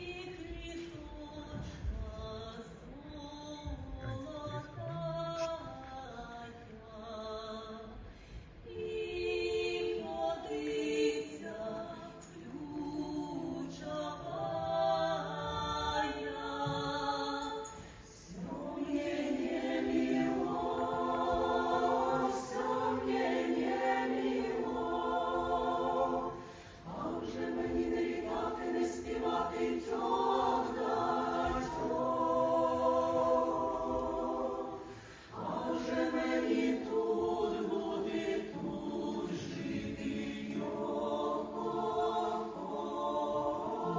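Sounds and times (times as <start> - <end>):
choir singing in harmony: 8.6 - 43.9.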